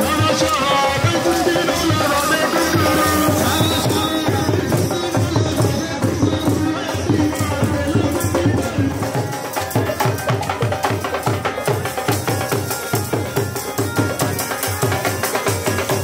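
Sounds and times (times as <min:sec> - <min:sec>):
dhol drum beating: 0:00.0 - 0:16.0
jingling hand percussion: 0:00.0 - 0:16.0.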